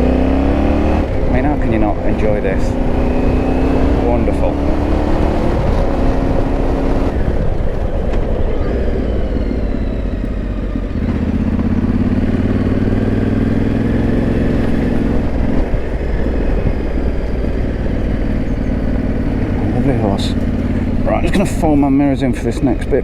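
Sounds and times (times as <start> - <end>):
motorcycle engine riding: 0.0 - 23.0.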